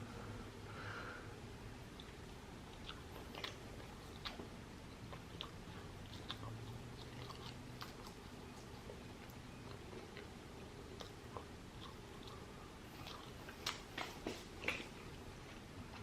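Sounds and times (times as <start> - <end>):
person chewing food: 1.8 - 16.0.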